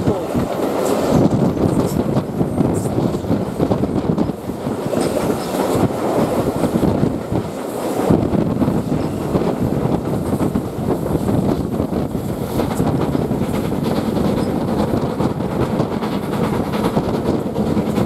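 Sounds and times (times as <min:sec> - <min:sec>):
train wheels rumbling and clattering: 0:00.0 - 0:18.0.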